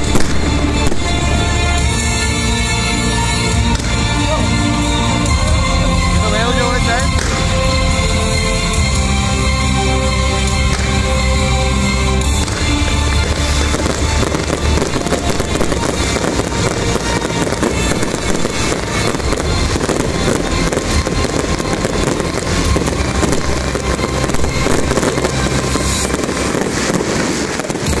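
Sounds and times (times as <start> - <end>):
fireworks crackling and bursting: 0.0 - 28.0
music playing: 0.0 - 28.0.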